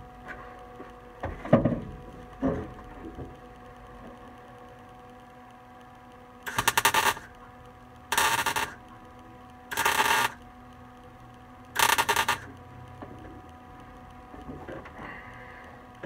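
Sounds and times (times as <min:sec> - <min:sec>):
welder crackling: 0:01.9 - 0:16.0.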